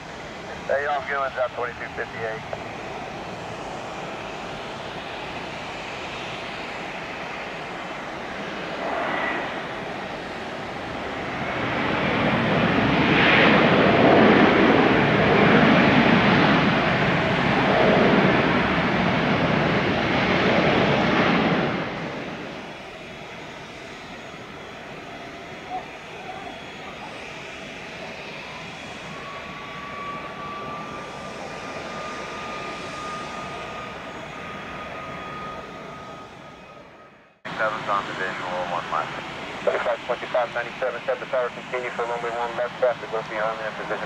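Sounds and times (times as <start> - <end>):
airliner engine roar: 0.0 - 44.0.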